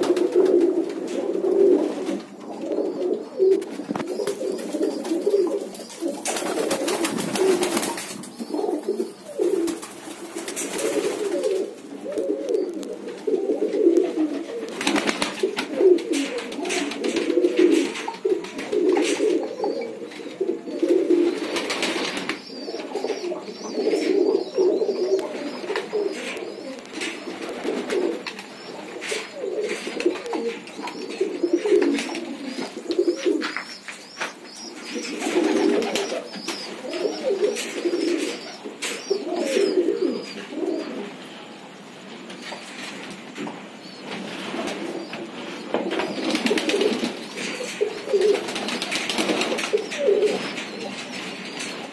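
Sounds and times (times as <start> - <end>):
pigeons cooing: 0.0 - 51.9.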